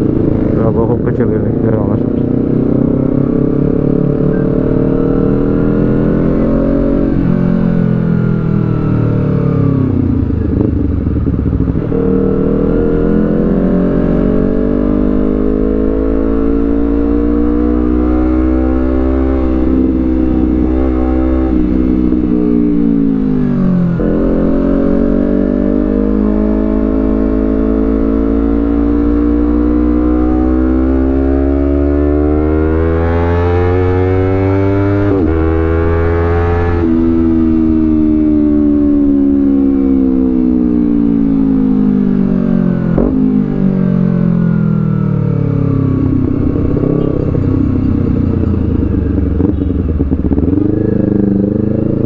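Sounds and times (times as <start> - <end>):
motorcycle exhaust note accelerating: 0.0 - 52.0.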